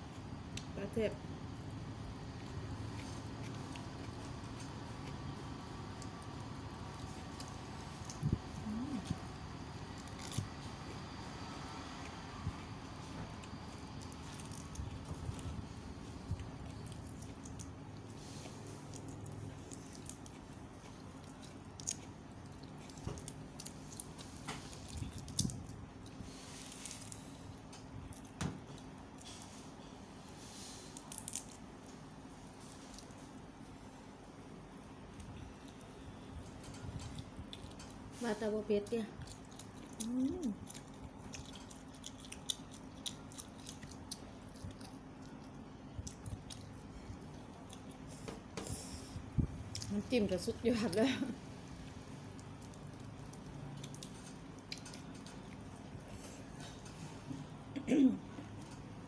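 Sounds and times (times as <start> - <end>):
low steady hum: 0.0 - 59.0
chewing food: 1.6 - 29.7, 35.0 - 57.2.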